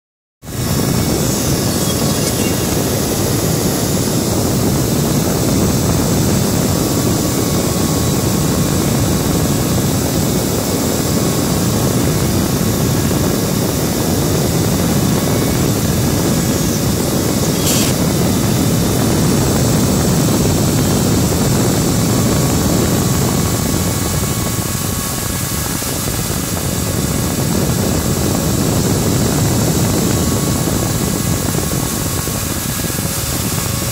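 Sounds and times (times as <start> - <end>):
mechanical running rumble: 0.4 - 33.9.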